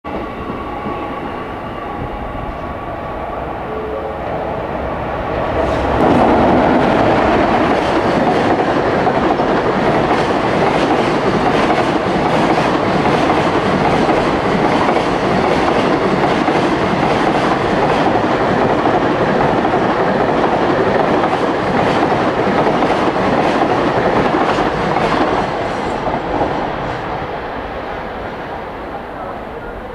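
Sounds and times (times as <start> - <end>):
steel wheels rushing on rail: 0.1 - 29.9.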